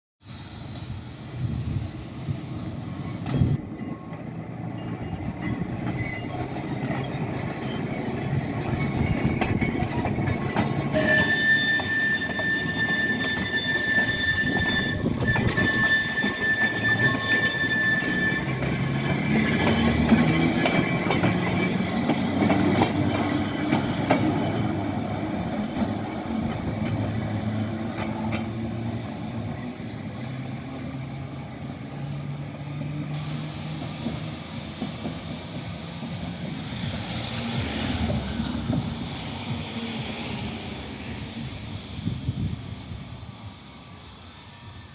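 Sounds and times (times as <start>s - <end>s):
electric tram motors and wheels: 0.2s - 44.9s
high wheel squeal: 1.7s - 42.1s.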